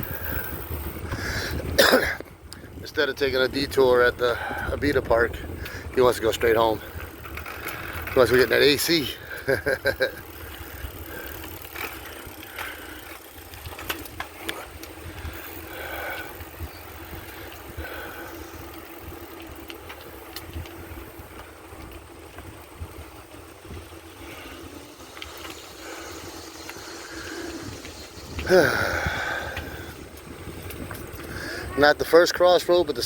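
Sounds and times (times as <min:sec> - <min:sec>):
wind rumbling on microphone: 0:00.0 - 0:32.1
bicycle rolling noise: 0:00.0 - 0:33.0.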